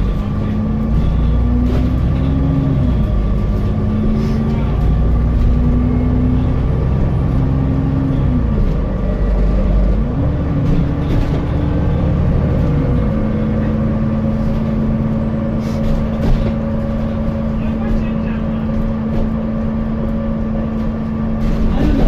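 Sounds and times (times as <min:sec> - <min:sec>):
bus engine humming: 0:00.0 - 0:22.0.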